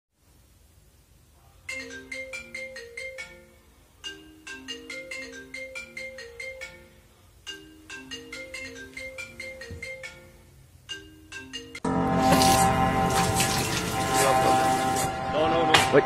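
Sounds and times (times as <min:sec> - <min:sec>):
marimba phone ringtone: 0:01.7 - 0:15.0.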